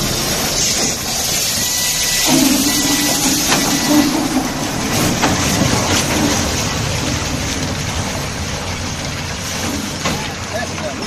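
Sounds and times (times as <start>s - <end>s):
loud steady hiss: 0.0s - 10.0s
diesel truck engine rumbling: 0.0s - 11.0s.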